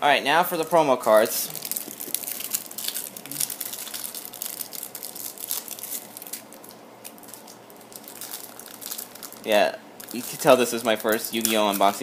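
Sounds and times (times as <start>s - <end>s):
plastic wrapping crinkling: 1.1s - 12.0s.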